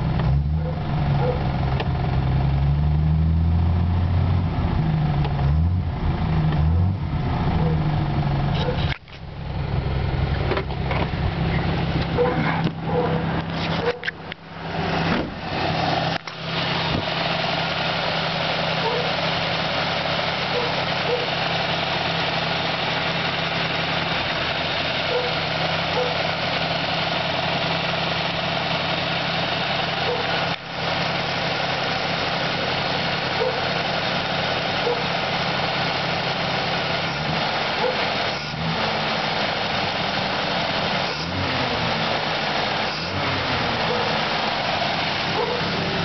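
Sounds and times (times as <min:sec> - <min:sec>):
engine idling up close: 0:00.0 - 0:46.0.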